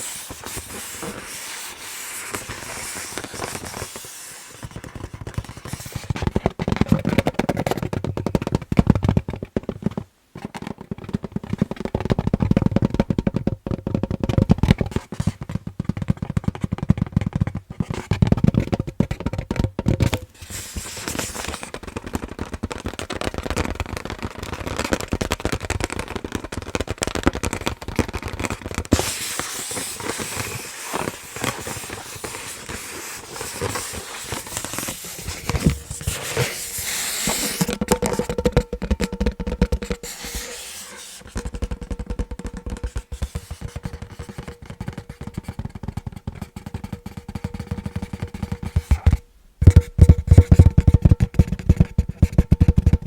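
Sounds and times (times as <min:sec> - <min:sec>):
scratching on balloon rubber: 0:00.0 - 0:53.0
tapping on a balloon: 0:02.1 - 0:53.0.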